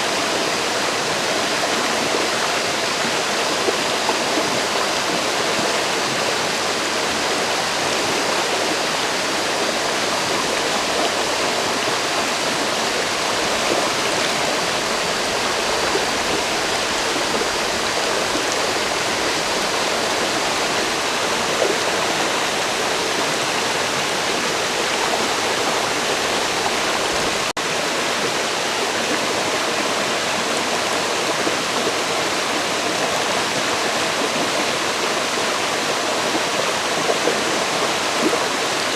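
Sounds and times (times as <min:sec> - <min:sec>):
river rushing and splashing: 0:00.0 - 0:38.9.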